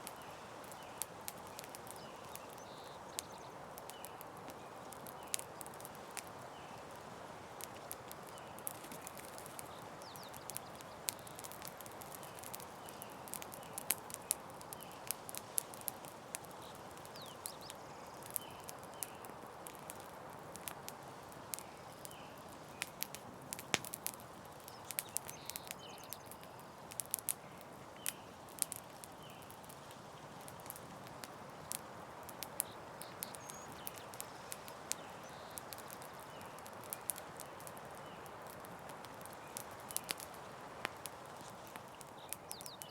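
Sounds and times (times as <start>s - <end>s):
campfire crackling and popping: 0.0s - 42.9s
soft hiss: 0.0s - 42.9s.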